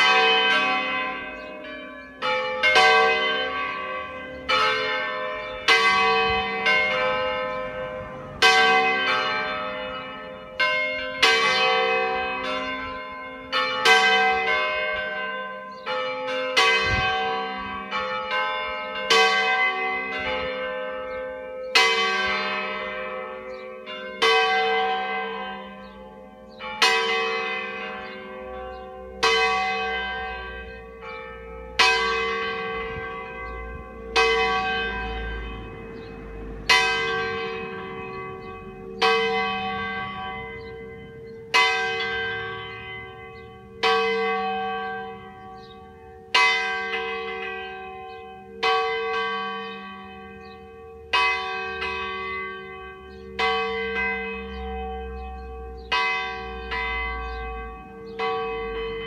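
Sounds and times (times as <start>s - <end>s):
church bell ringing: 0.0s - 59.0s.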